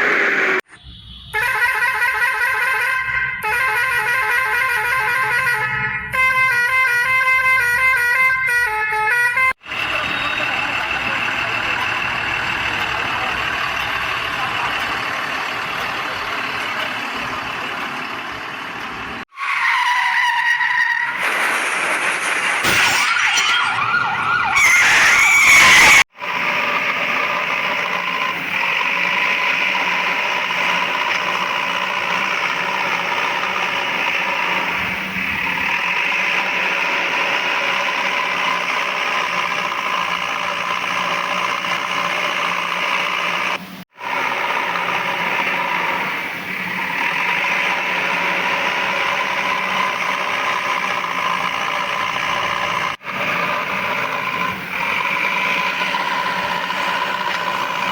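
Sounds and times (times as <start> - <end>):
toy vehicle engine drone: 9.6 - 57.9.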